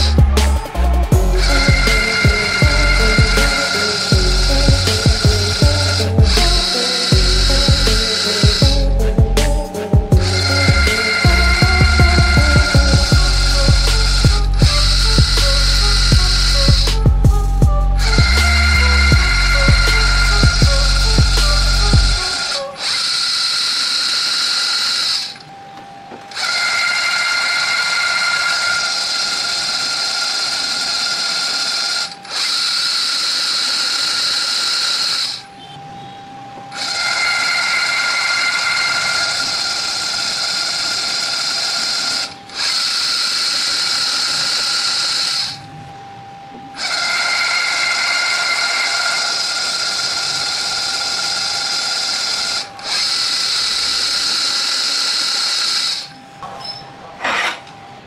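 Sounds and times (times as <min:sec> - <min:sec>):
drill press motor whining: 0:00.0 - 0:58.0.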